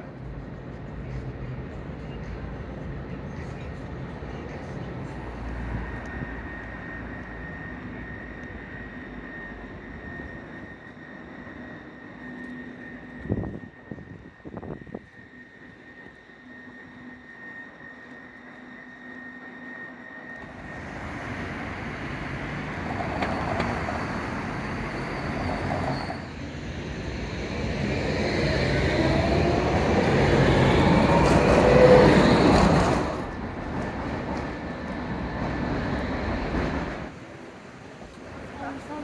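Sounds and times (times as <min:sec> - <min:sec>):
tram rumbling past: 0:00.0 - 0:15.0, 0:20.4 - 0:39.0
tram whine shifting in pitch: 0:00.0 - 0:39.0.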